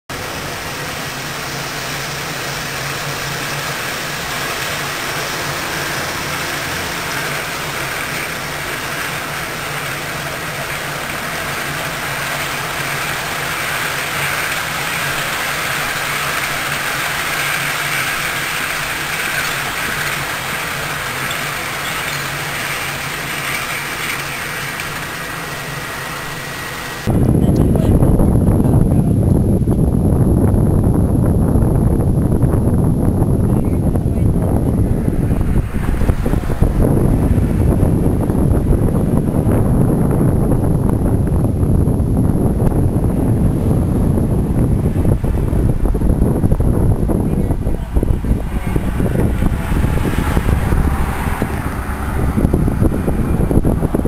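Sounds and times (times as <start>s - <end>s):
model train rolling: 0.1s - 27.2s, 32.2s - 54.0s.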